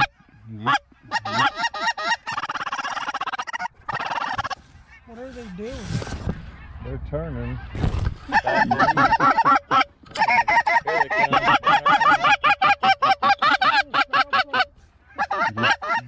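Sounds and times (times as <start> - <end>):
goose honking: 0.0 - 5.6, 6.5 - 16.0.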